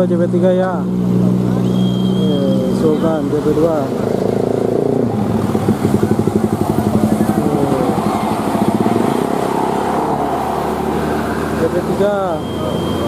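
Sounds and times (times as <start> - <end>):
diesel bus engine running: 0.0 - 13.0.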